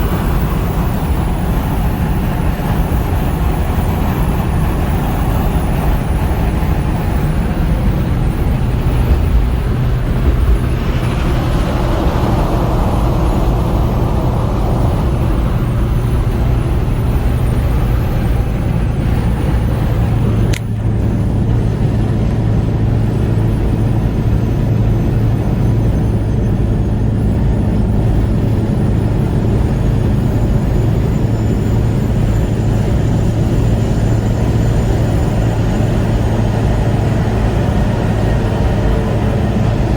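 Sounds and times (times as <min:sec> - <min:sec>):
vehicle engine drone and road noise: 0:00.0 - 0:39.9.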